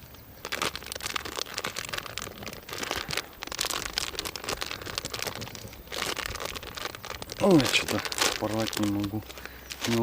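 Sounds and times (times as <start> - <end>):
plastic packet crinkling: 0.4 - 10.0.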